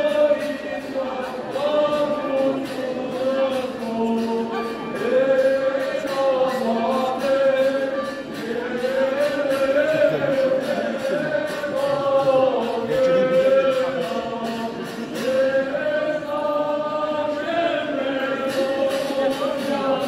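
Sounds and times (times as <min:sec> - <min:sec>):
choir chanting a hymn: 0:00.0 - 0:20.0.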